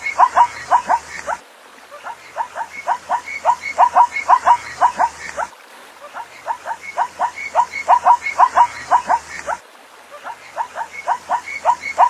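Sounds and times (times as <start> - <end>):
zebra barking yelps: 0.0 - 9.6, 10.2 - 12.0.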